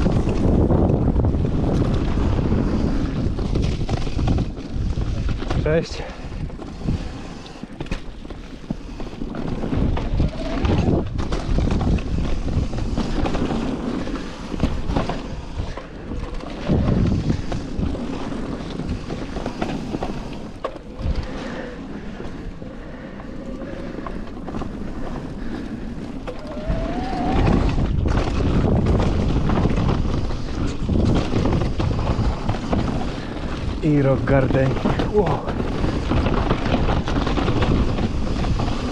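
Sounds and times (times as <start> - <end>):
bike knocking and rattling: 0.0 - 38.9
bike tyre rumble: 0.0 - 38.9
wind buffeting microphone: 0.0 - 38.9.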